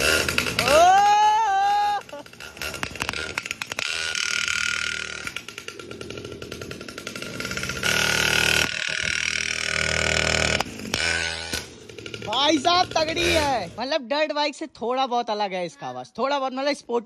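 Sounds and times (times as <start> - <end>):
small two-stroke engine revving: 0.0 - 13.8.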